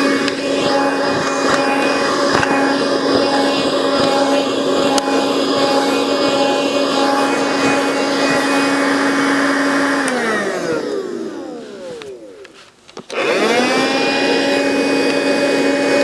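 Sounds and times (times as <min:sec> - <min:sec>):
handheld vacuum motor whine: 0:00.0 - 0:16.0.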